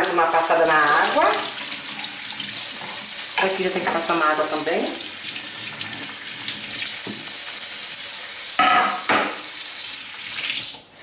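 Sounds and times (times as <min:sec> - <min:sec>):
tap water splashing in sink: 0:00.0 - 0:07.5, 0:08.6 - 0:10.9.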